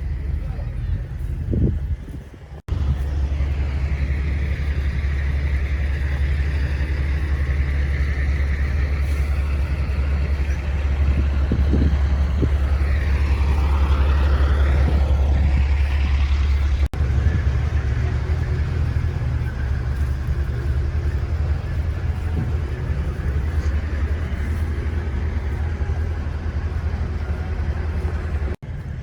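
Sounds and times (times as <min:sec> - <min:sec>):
truck engine rumbling: 0:00.0 - 0:29.0.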